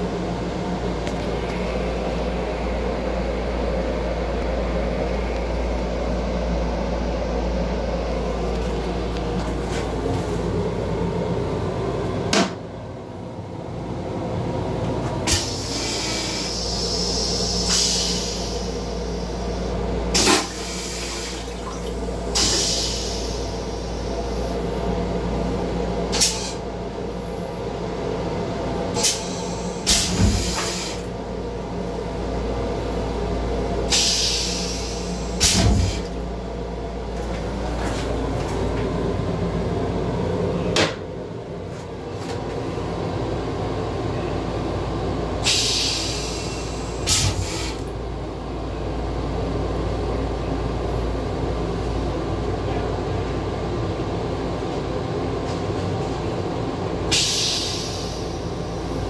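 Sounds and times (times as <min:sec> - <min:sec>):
railcar rumbling: 0:00.0 - 0:59.0.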